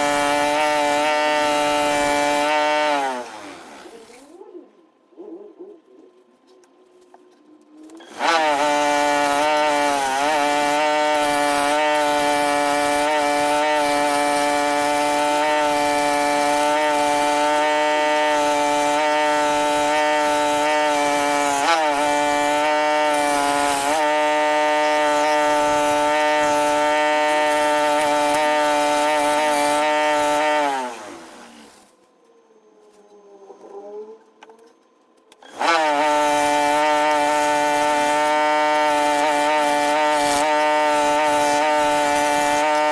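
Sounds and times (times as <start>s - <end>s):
power tool carving wood: 0.0s - 4.2s, 8.0s - 31.8s, 35.3s - 42.9s.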